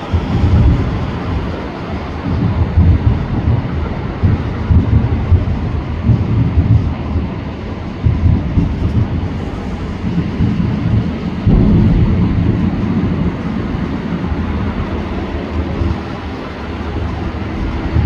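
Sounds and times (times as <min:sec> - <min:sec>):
fireworks booming: 0:00.0 - 0:07.3, 0:08.0 - 0:18.0.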